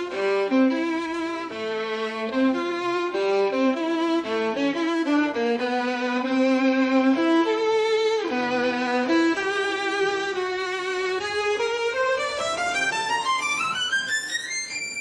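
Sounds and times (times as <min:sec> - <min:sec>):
violin melody with vibrato: 0:00.0 - 0:15.0.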